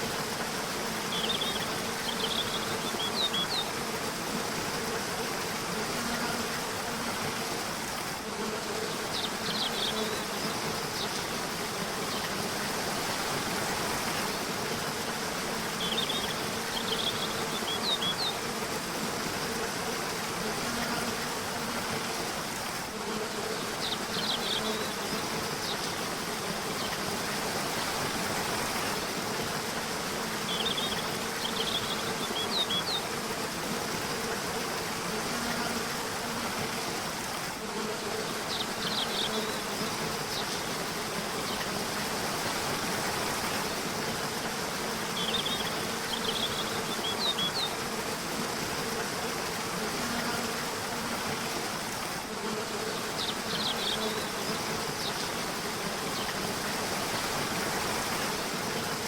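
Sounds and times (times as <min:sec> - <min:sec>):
low insect buzz: 0:00.0 - 0:59.0
rushing river: 0:00.0 - 0:59.0.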